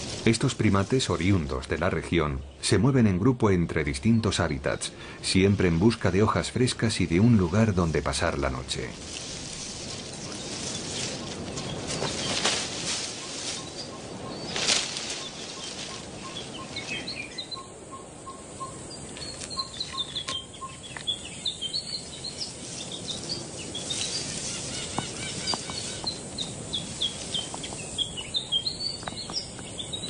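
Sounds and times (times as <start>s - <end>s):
birds chirping: 0.0s - 30.0s
steady background hiss: 0.0s - 30.0s.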